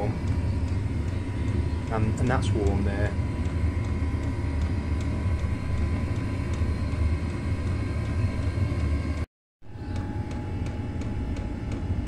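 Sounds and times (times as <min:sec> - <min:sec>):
heater combustion rumble: 0:00.0 - 0:12.0
thin steady whine: 0:00.0 - 0:12.0.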